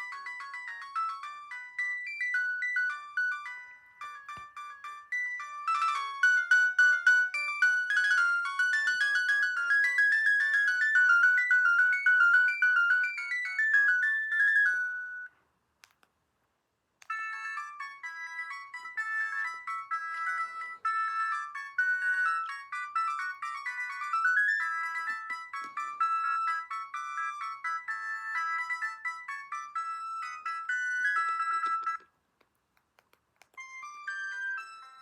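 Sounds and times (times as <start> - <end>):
phone ringtone melody: 0.0 - 15.3, 17.0 - 32.1, 33.5 - 35.0
polyphonic ringtone tune: 0.0 - 15.3, 17.0 - 32.1, 33.6 - 35.0.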